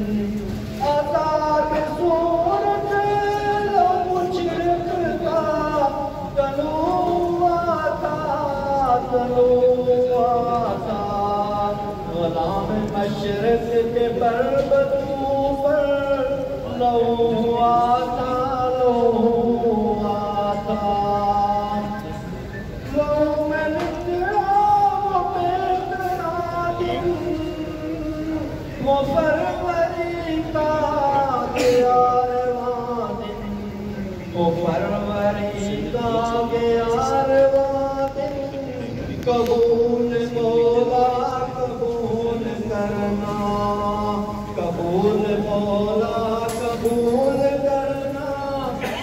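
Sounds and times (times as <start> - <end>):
man singing through loudspeaker: 0.0 - 49.0.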